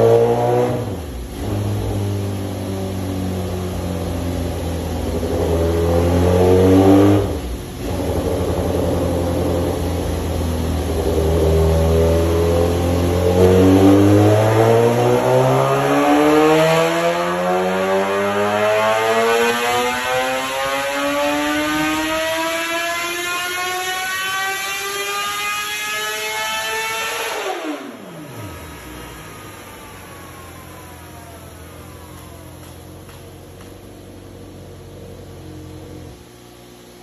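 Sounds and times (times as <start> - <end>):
motorcycle engine revving on a dyno: 0.0 - 37.0.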